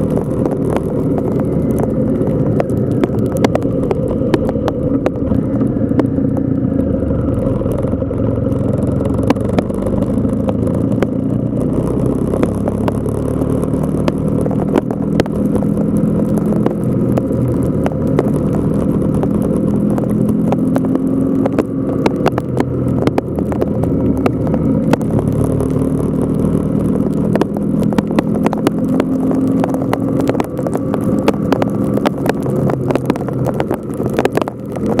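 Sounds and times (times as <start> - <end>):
motorcycle engine revving: 0.0 - 35.0
sleet ticking on camera: 0.0 - 35.0
wind noise: 0.0 - 35.0.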